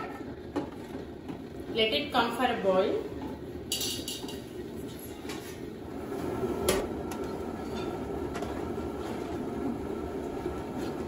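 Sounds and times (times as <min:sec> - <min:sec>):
gas burner rumbling: 0:00.0 - 0:11.0.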